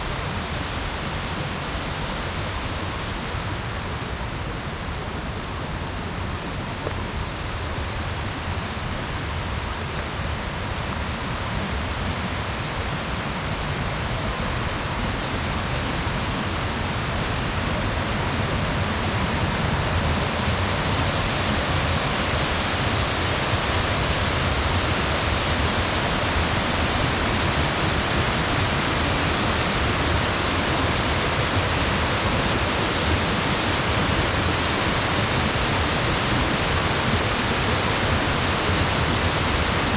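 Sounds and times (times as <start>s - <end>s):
waterfall and rapids rushing: 0.0s - 39.9s.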